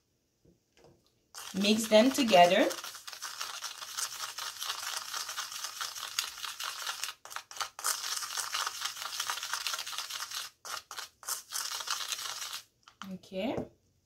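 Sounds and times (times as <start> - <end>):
spoon scraping salt in plastic bowl: 1.4 - 13.2.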